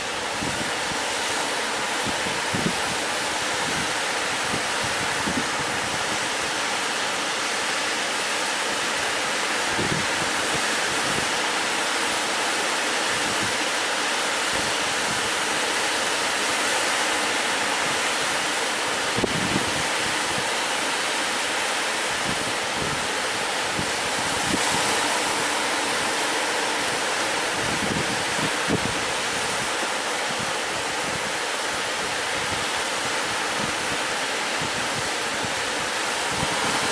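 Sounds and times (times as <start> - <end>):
sea surf breaking: 0.0 - 36.9.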